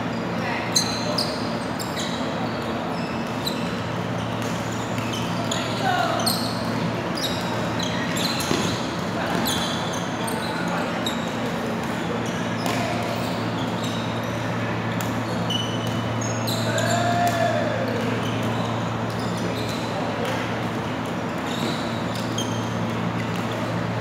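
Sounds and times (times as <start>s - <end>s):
low hum in hall: 0.0s - 24.0s
shoes squeaking on court: 0.0s - 24.0s.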